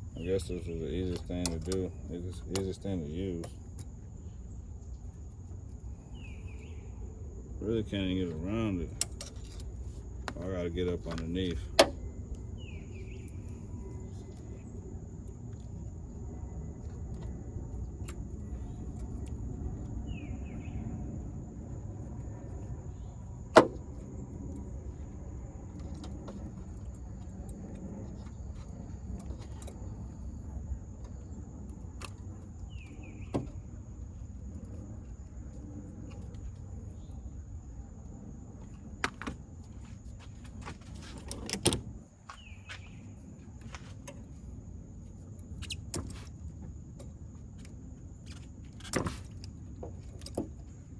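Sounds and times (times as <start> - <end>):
low background rumble: 0.0 - 50.9.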